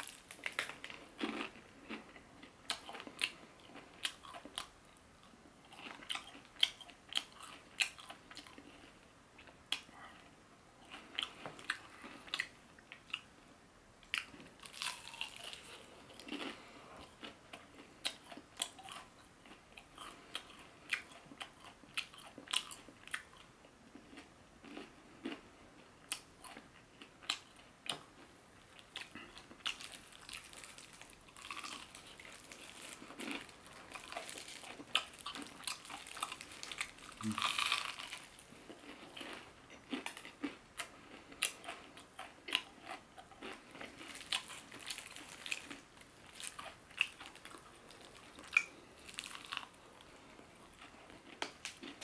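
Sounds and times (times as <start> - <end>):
crunchy chewing: 0.0 - 13.3, 14.1 - 52.0.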